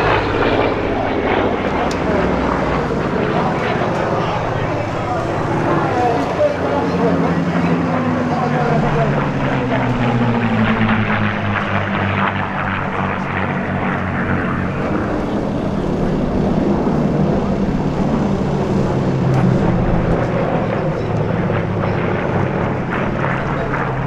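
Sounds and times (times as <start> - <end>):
propeller planes droning past: 0.0 - 24.0.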